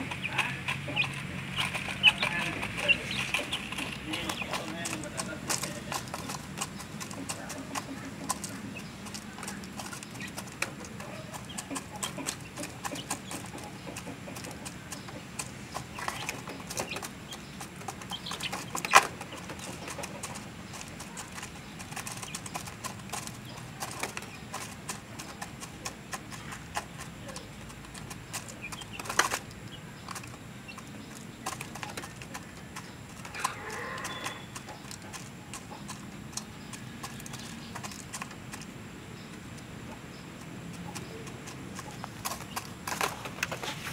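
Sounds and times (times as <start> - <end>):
chicks pecking at plastic feeder: 0.0 - 43.9.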